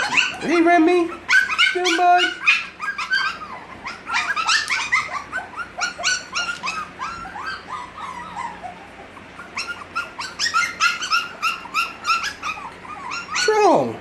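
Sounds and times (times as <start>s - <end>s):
puppies crying and whimpering: 0.0s - 14.0s.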